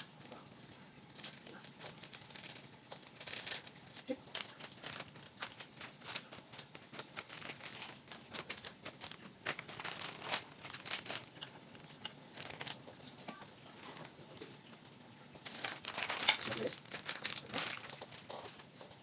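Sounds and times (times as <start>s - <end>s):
plastic packaging crinkling: 0.0s - 14.7s, 15.4s - 19.0s.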